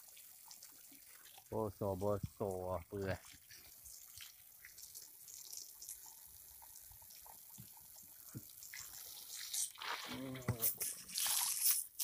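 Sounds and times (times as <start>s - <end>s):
hose water splashing: 0.0s - 12.0s.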